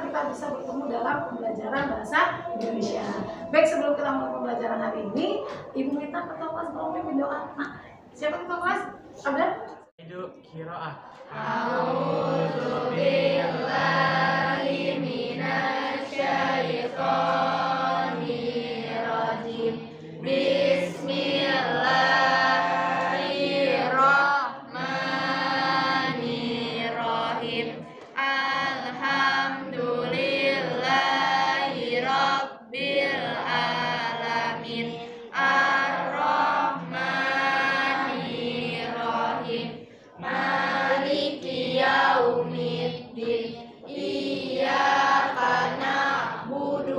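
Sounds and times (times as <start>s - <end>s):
students chanting in unison: 0.0s - 3.8s, 11.0s - 46.9s.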